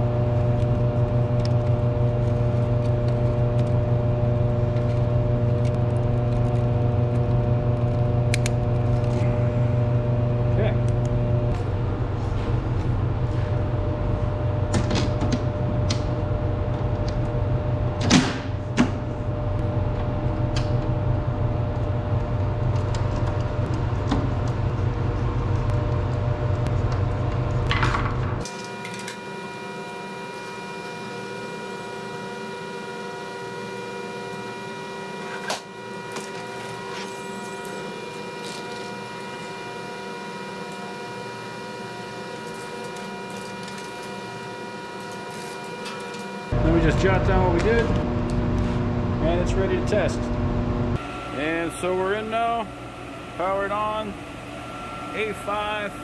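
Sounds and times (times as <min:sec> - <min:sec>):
higher steady hum: 0:00.0 - 0:56.0
low machine hum: 0:00.0 - 0:56.0.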